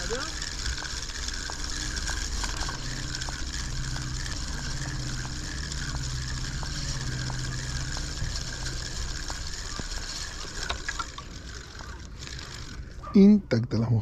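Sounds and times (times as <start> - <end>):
fishing reel gear whir: 0.0 - 13.4
light reel ticking: 0.0 - 13.4.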